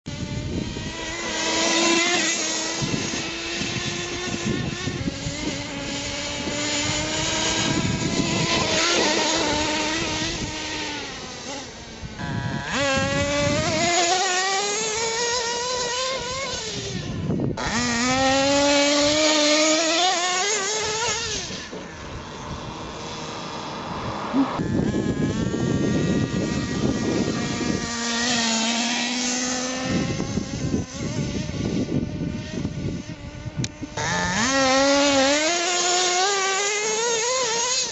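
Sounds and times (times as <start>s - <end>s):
toy truck motor whining: 0.1s - 37.9s.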